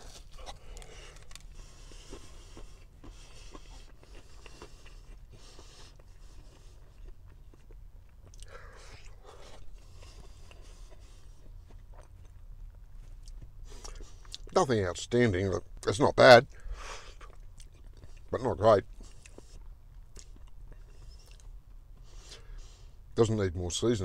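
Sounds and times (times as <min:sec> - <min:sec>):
man chewing pie with crisp pastry: 0:00.0 - 0:23.2.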